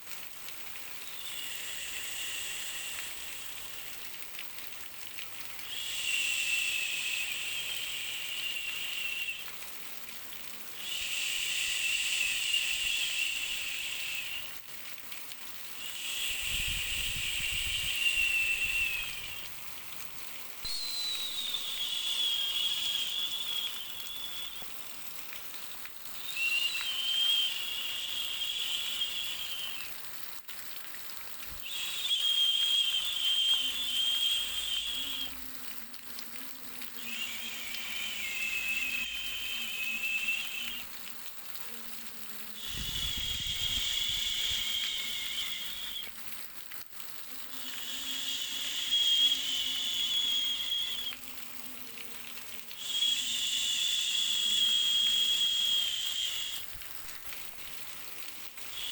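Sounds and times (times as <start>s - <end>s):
breathy whistling hiss: 0.0s - 58.9s
faint steady hiss: 0.0s - 58.9s.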